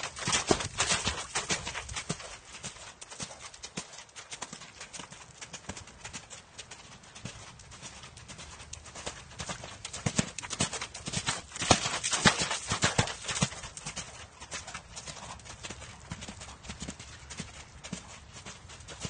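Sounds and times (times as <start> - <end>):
horse hooves clip-clopping: 0.0 - 19.0.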